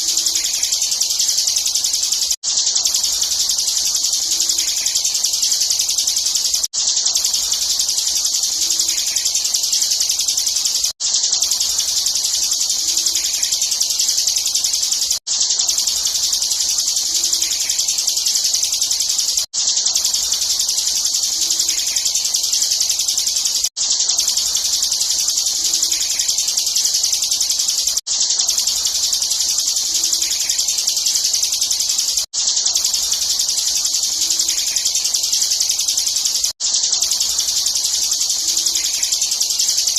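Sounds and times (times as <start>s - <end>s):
bird singing high trill: 0.0s - 39.9s.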